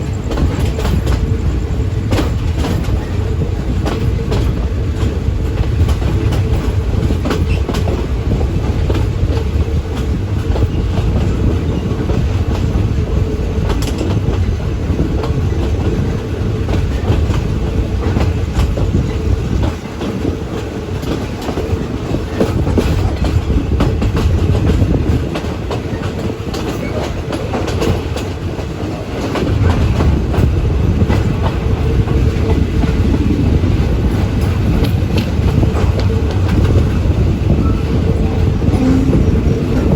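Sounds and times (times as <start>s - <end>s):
track clickety-clack: 0.0s - 39.9s
train wheels rumbling on rail: 0.0s - 39.9s.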